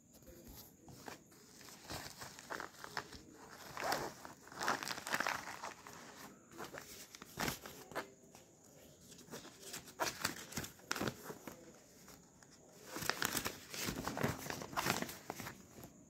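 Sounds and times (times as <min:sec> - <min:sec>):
paper crackling and rustling: 0:00.1 - 0:16.0.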